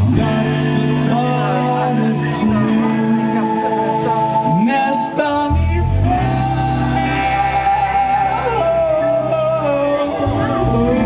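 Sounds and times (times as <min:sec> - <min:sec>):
bass guitar: 0:00.0 - 0:11.0
electric guitar: 0:00.0 - 0:11.0
live rock band playing: 0:00.0 - 0:11.0.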